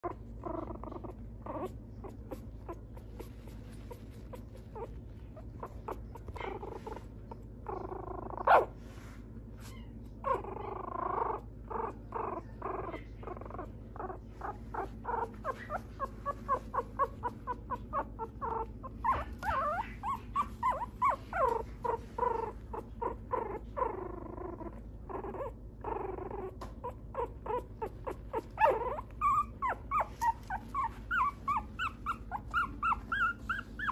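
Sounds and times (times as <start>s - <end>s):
puppy whimpering: 0.0s - 8.8s, 9.6s - 33.9s
low steady hum: 0.0s - 33.9s.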